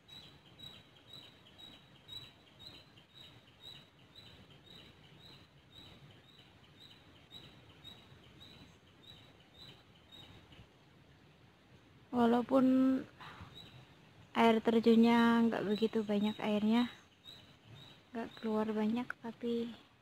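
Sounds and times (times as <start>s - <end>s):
faint high-pitched bird chirp: 0.0s - 10.7s, 12.2s - 19.8s.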